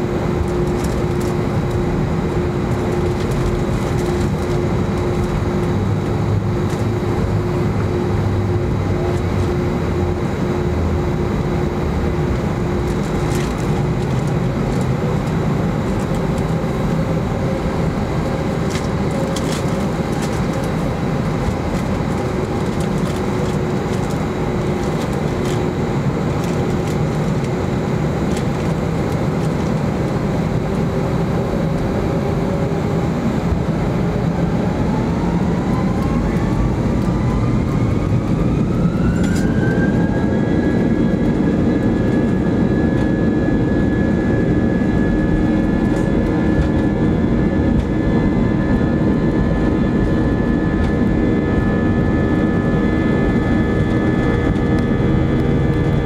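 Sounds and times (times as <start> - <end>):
jet engine rumble: 0.0 - 56.0
jet engine whine: 0.0 - 56.0.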